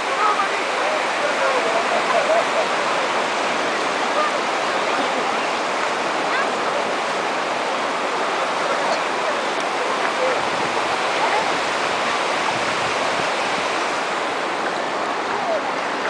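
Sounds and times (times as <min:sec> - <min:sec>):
surf washing over sand: 0:00.0 - 0:16.0.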